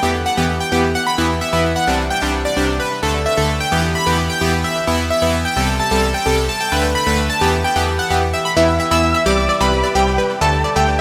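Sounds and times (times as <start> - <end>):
electronic synthesizer music: 0.0 - 11.0.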